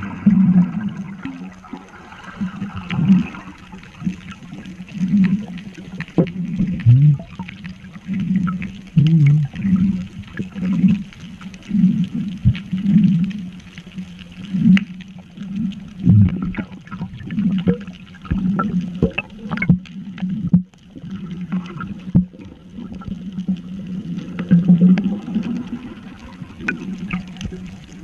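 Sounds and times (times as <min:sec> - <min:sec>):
bubbling: 0:00.0 - 0:28.0
low underwater hum: 0:00.0 - 0:28.0.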